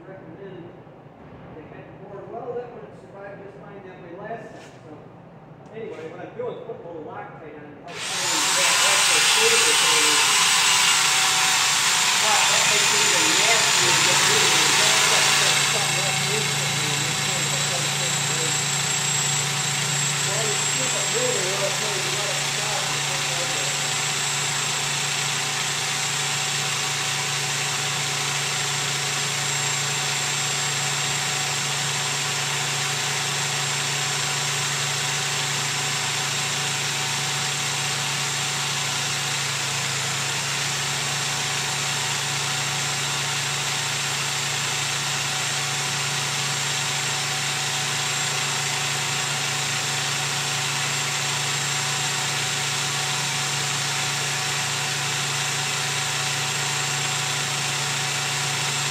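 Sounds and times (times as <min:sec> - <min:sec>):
machine hum: 0:07.9 - 0:58.9.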